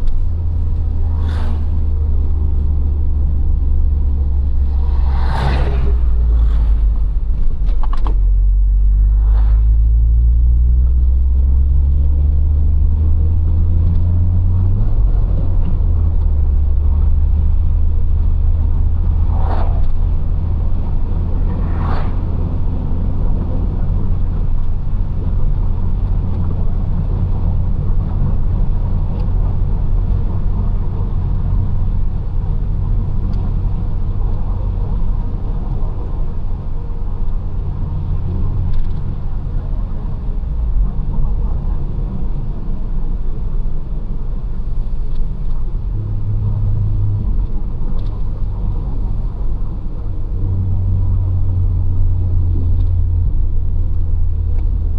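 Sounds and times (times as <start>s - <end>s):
car engine accelerating: 0.0s - 54.9s
road rumble: 0.0s - 54.9s.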